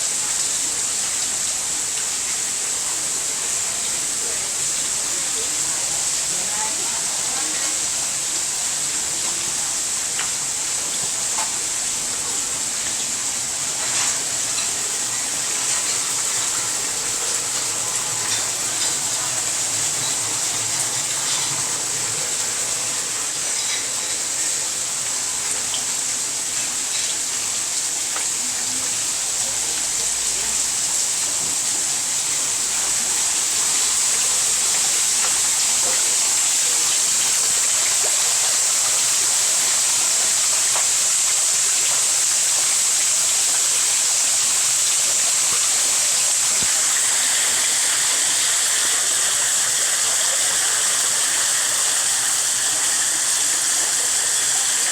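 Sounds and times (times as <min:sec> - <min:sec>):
small waterfall splashing: 0:00.0 - 0:54.9.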